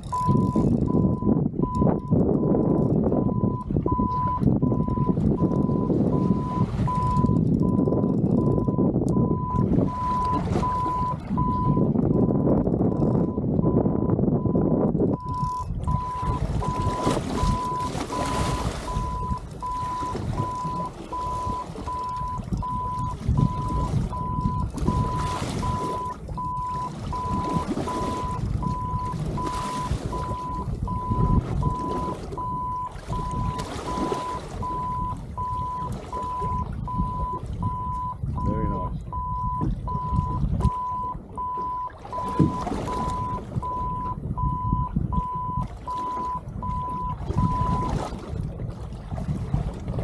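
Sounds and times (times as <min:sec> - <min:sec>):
low rumble of boat: 0:00.0 - 0:50.0
electronic alarm beeping: 0:00.1 - 0:02.5, 0:03.2 - 0:12.4, 0:13.3 - 0:47.9.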